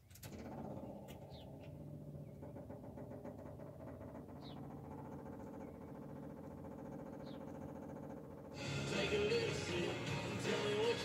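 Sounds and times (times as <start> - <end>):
diesel engine running: 0.5 - 11.0.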